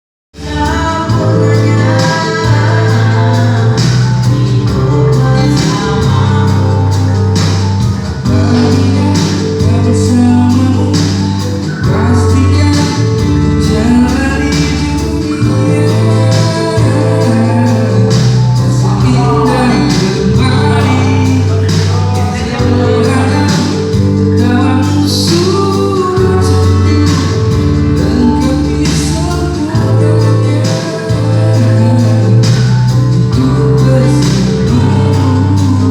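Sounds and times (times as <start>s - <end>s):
person singing off-key: 0.4s - 35.9s
repeating bass line: 0.4s - 35.9s
song with steady beat: 0.4s - 35.9s.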